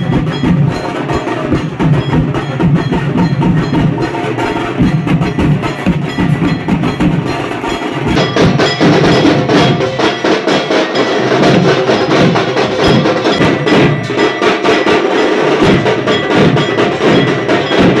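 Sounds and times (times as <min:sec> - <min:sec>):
rhythmic percussion music: 0:00.0 - 0:18.0
ringing metallic bell-like tones: 0:00.0 - 0:18.0.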